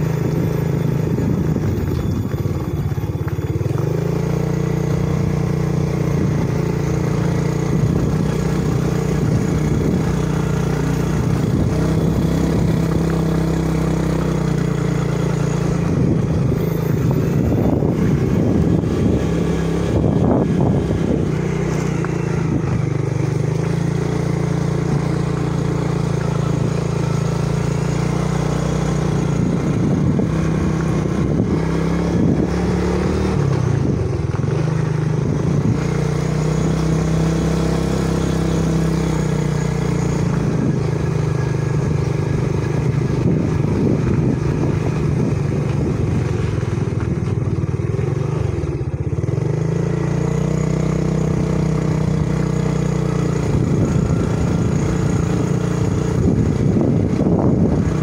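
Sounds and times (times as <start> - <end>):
small motorcycle engine revving: 0.0 - 58.0
wind and road noise: 0.0 - 58.0.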